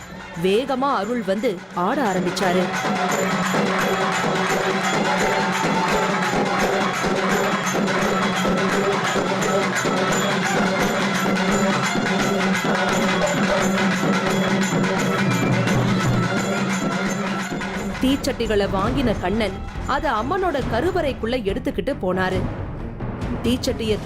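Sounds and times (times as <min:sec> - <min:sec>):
fast percussion strokes: 0:00.0 - 0:21.3.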